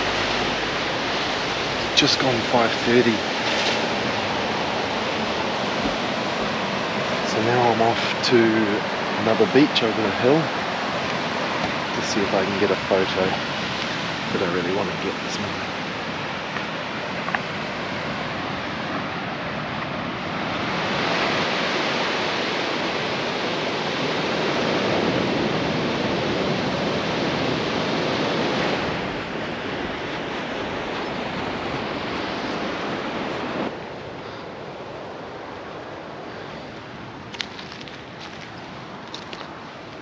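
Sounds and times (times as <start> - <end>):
ocean surf washing onto beach: 0.0 - 40.0.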